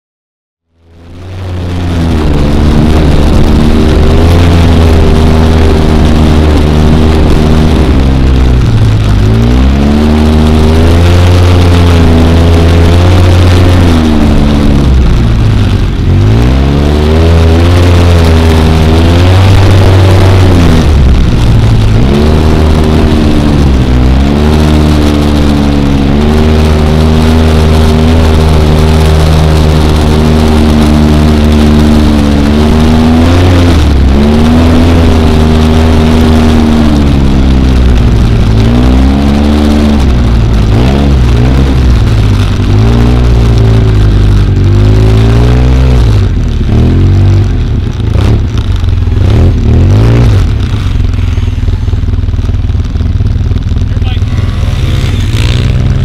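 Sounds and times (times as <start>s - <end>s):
atv engine running: 0.7s - 56.0s
steady rushing noise: 0.7s - 56.0s.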